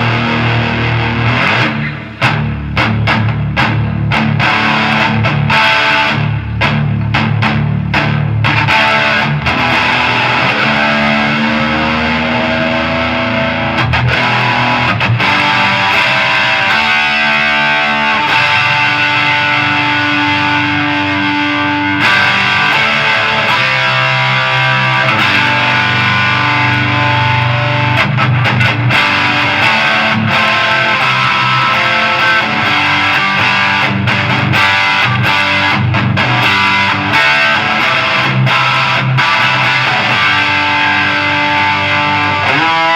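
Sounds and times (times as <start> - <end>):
distorted electric guitar riffing: 0.0 - 42.9.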